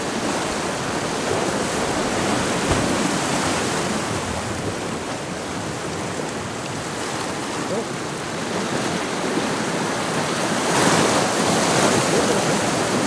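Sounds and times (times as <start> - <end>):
surf washing against rocks: 0.0 - 13.0.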